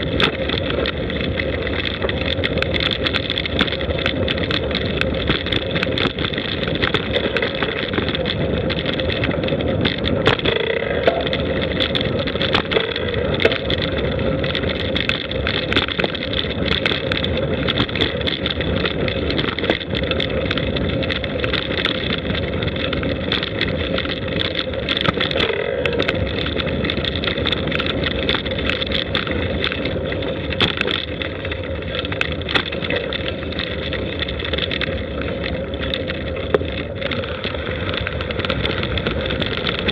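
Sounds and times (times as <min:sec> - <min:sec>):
rolling rumble on gravel: 0:00.0 - 0:39.9
small knocks and rattles: 0:00.0 - 0:39.9
wind noise: 0:00.0 - 0:39.9.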